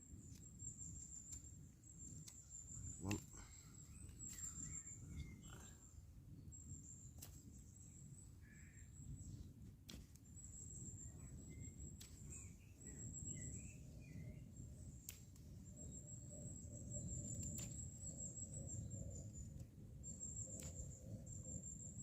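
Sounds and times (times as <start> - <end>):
faint bird chirps: 0.3 - 9.6, 10.3 - 22.0.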